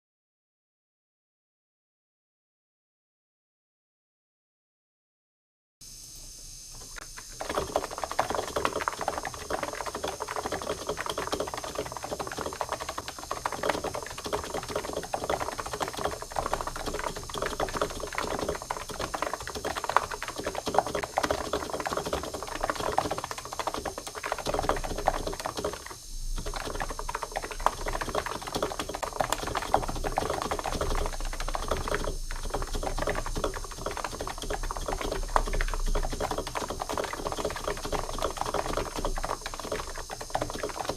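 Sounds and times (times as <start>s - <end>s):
fast typing on keyboard: 7.1s - 40.9s.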